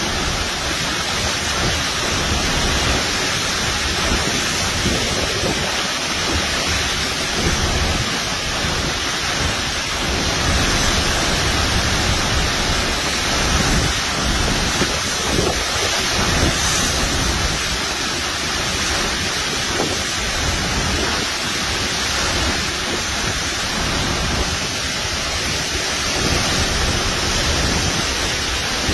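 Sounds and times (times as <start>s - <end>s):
driving rain: 0.0s - 28.9s
strong wind: 0.0s - 28.9s
wind buffeting microphone: 0.0s - 28.9s.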